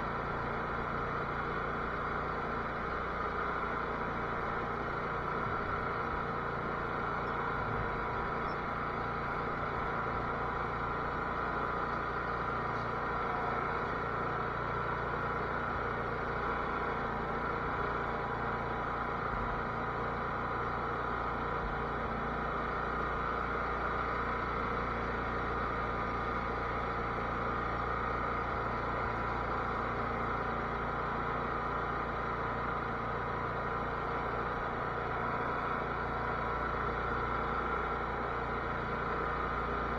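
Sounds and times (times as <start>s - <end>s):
lawn tractor engine droning: 0.0s - 39.9s.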